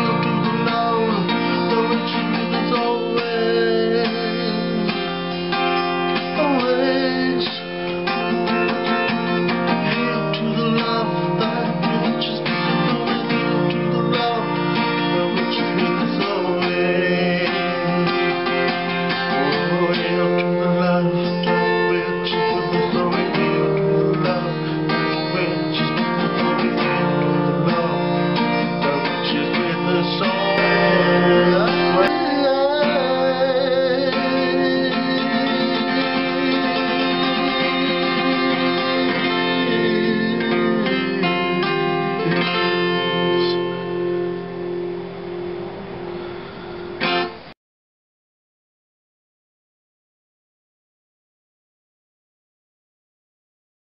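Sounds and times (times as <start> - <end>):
acoustic guitar strumming chords: 0.0 - 47.6.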